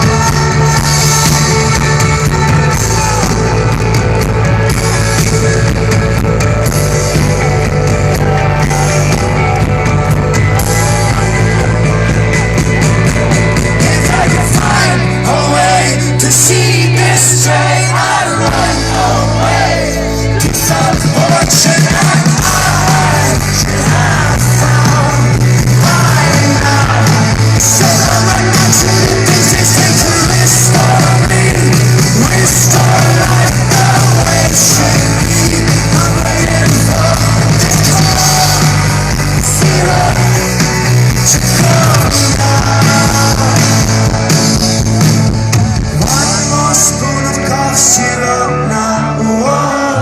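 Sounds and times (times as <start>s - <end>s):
bass guitar: 0.0s - 50.0s
rock band playing live: 0.0s - 50.0s
singer belting vocals: 0.0s - 50.0s.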